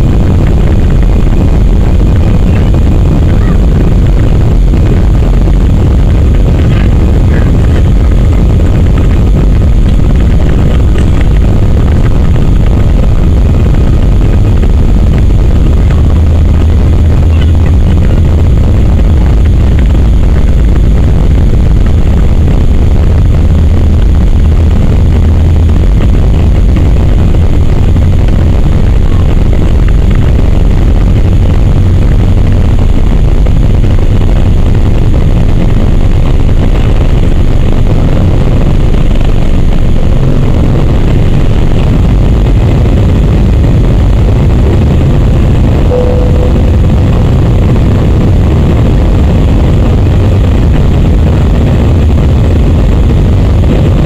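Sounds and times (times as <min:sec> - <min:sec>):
jet engines at takeoff thrust: 0:00.0 - 0:54.0
runway rumble: 0:00.0 - 0:54.0.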